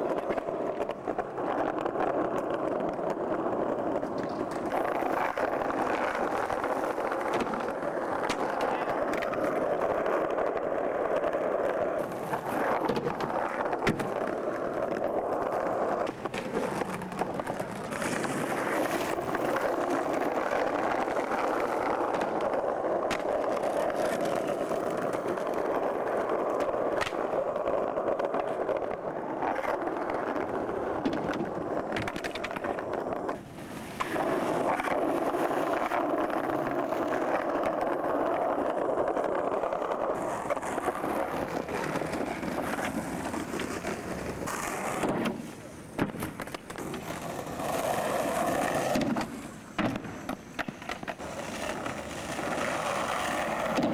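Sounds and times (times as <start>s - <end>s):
skateboard wheels rolling on paving: 0.0s - 53.9s
skateboards clacking: 0.0s - 53.9s.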